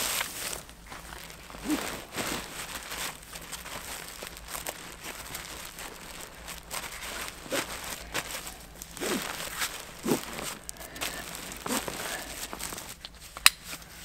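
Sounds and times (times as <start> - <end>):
sharp crunches: 0.0 - 13.9
crinkling and rustling handling noise: 0.0 - 14.0.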